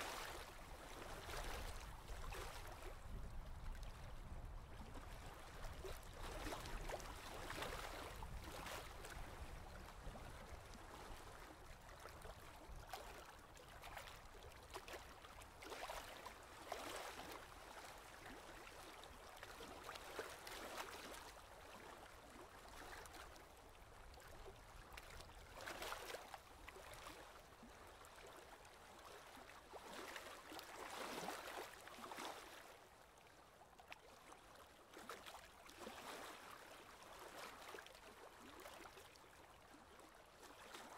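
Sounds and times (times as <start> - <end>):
paddle water splashing and dripping: 0.0 - 40.9.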